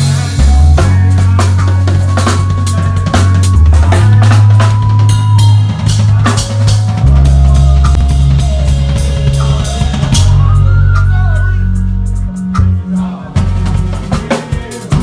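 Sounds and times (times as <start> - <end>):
deep held bass notes: 0.0 - 14.3
drum kit playing: 0.0 - 15.0.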